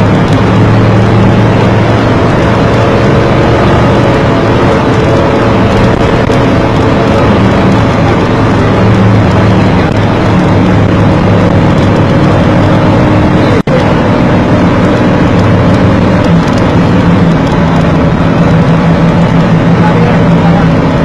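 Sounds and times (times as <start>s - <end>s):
car engine: 0.0s - 21.0s
road noise: 0.0s - 21.0s.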